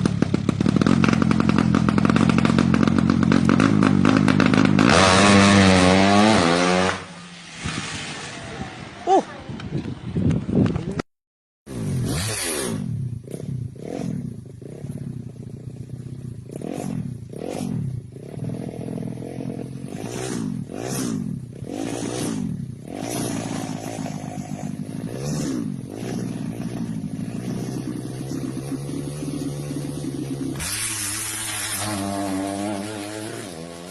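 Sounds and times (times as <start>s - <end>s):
motorcycle engine revving: 0.0s - 10.0s, 11.7s - 33.9s.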